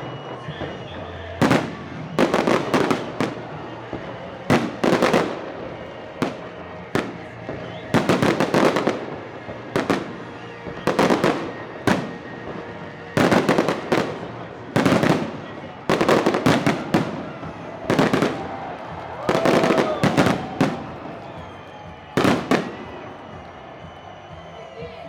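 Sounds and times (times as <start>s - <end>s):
fireworks bursting with sharp bangs: 0.0s - 24.8s.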